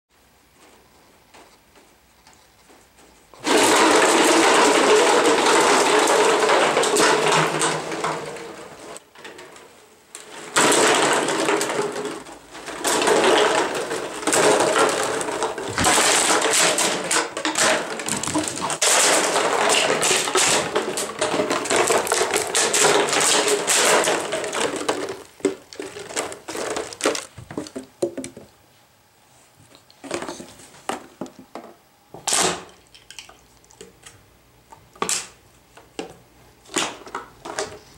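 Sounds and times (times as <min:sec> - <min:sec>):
bottles rattling and crinkling: 0:00.5 - 0:28.5, 0:30.0 - 0:34.1, 0:34.8 - 0:37.9
plastic bottles clattering on floor: 0:03.0 - 0:28.5, 0:30.0 - 0:34.0, 0:34.8 - 0:37.9.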